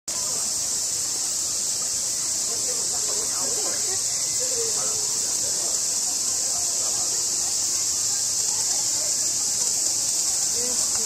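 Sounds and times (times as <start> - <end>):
cicadas buzzing: 0.1 - 11.0.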